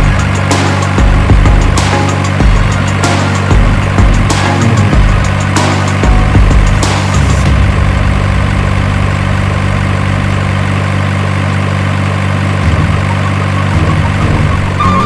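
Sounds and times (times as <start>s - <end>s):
heavy engine idling: 0.0s - 15.0s.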